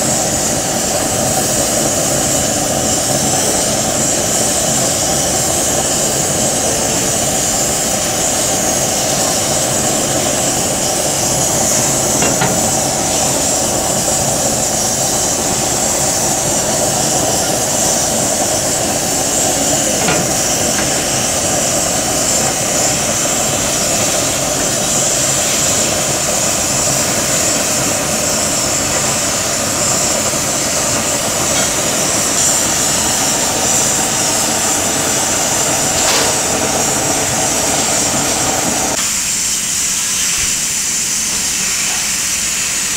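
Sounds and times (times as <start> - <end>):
gas flame rushing: 0.0 - 42.9.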